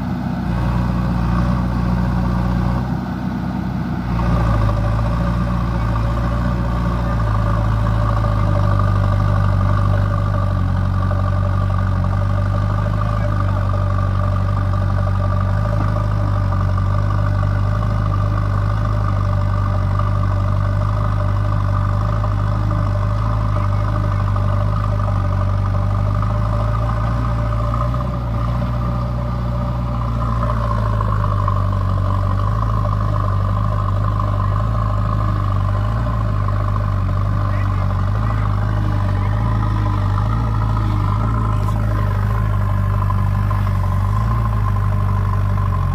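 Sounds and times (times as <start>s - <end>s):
diesel engine humming: 0.0s - 45.9s
high engine whine: 0.0s - 45.9s.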